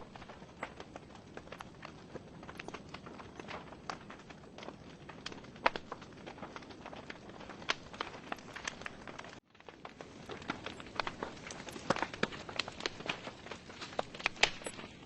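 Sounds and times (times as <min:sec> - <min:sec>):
flames hissing: 0:00.0 - 0:15.0
wood fire crackling and popping: 0:00.0 - 0:15.0.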